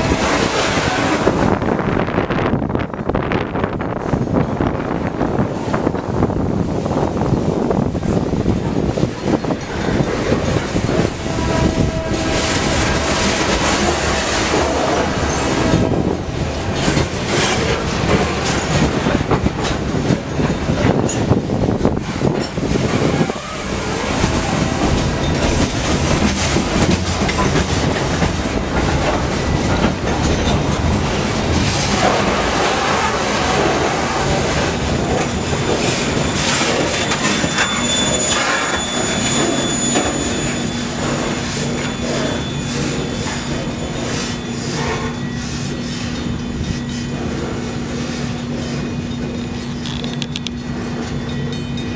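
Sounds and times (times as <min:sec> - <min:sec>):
train wheels on rails: 0:00.0 - 0:51.9.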